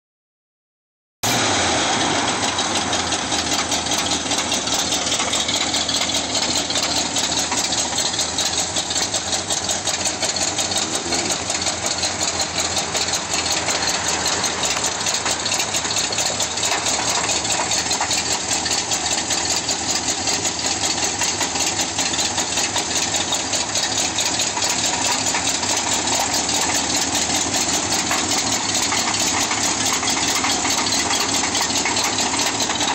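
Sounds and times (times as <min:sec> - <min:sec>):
car engine running with knock: 0:01.2 - 0:32.9.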